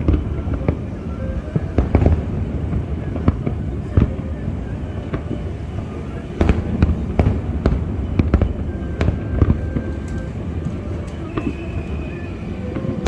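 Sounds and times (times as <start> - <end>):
distant explosions rumbling: 0.0 - 13.0
fireworks bangs and pops: 0.0 - 13.0.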